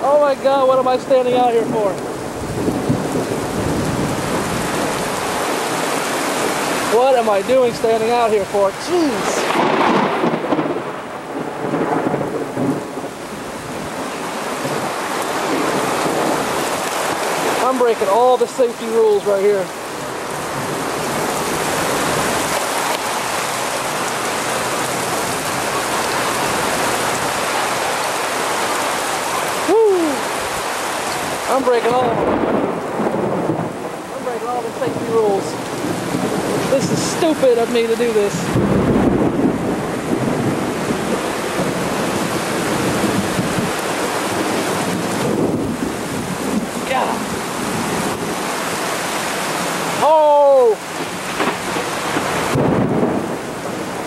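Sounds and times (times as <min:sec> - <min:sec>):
wind buffeting microphone: 0:00.0 - 0:27.8, 0:29.6 - 0:50.0
heavy rain pouring: 0:00.0 - 0:54.0.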